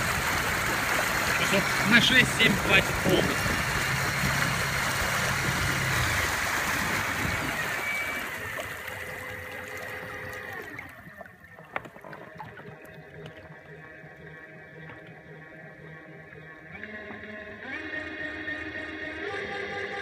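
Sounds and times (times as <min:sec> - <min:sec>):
water rushing along boat hull: 0:00.0 - 0:19.7.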